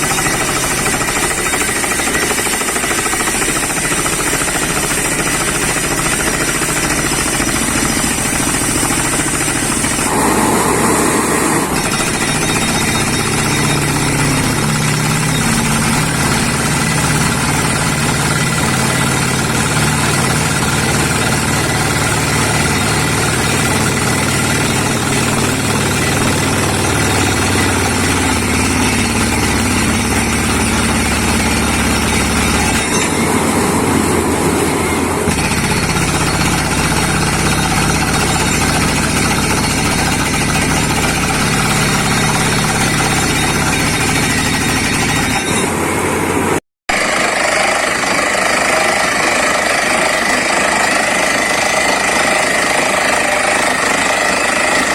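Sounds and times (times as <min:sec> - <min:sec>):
drill hammer rattling: 0:00.0 - 0:45.8, 0:46.9 - 0:54.9
engine and compressor drone: 0:00.0 - 0:54.9.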